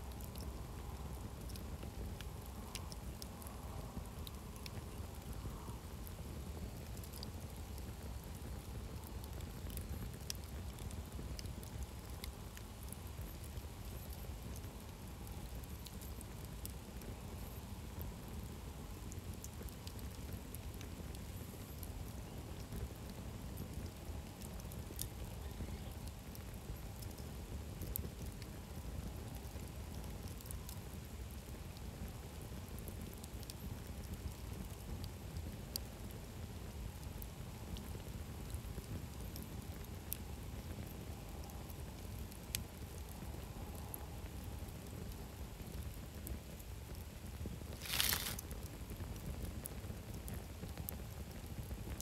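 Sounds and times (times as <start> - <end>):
campfire crackling and popping: 0.0 - 52.0
fire low rumble: 0.0 - 52.0.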